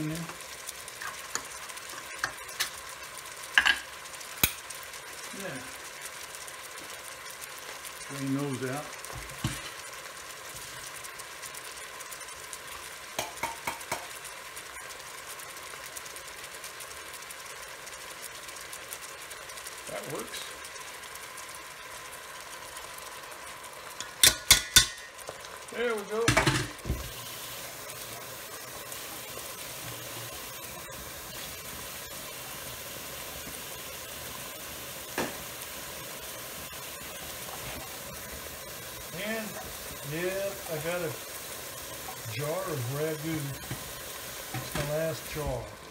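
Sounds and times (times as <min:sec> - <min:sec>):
meatballs sizzling in a pot: 0:00.0 - 0:45.9.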